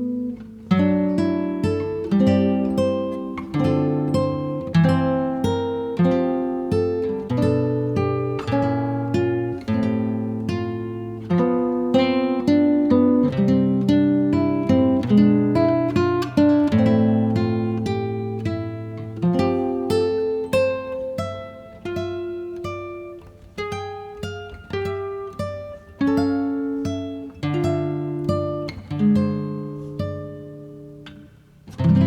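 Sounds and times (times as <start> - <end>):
acoustic guitar plucked melody: 0.0 - 32.0.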